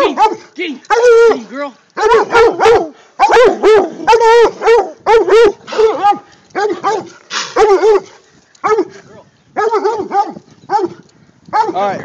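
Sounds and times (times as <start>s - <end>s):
dog barking: 0.0s - 1.4s, 2.0s - 8.9s, 9.6s - 11.0s, 11.6s - 11.8s.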